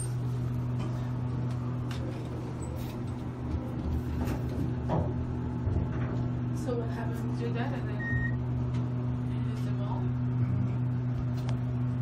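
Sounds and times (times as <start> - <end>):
elevator hum: 0.0 - 12.0.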